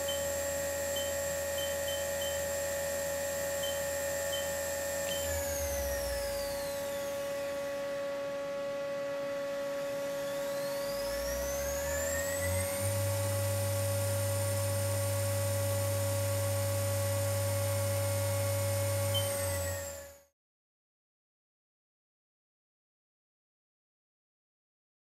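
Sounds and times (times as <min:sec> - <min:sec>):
lathe spindle whining: 0:00.0 - 0:20.2
steady machine hum: 0:00.0 - 0:20.2.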